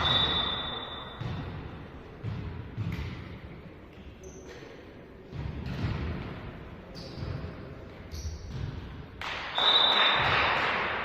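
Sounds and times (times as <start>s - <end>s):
volleyball hits echoing: 0.0s - 3.6s, 5.2s - 11.0s.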